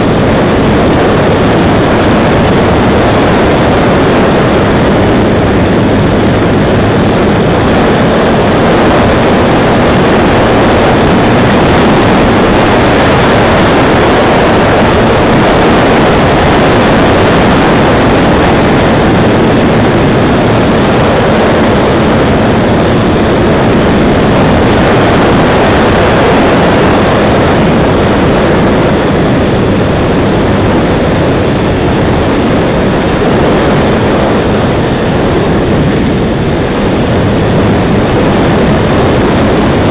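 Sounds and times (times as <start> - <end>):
rushing airflow: 0.0 - 39.9.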